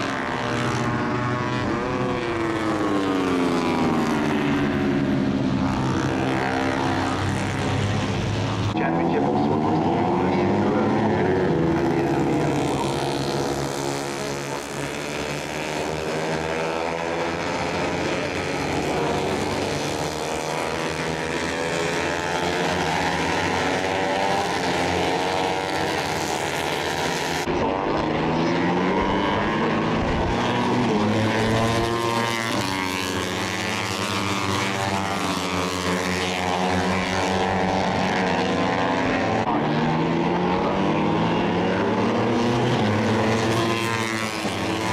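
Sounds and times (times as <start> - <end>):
racing motorcycles revving: 0.0 - 44.9.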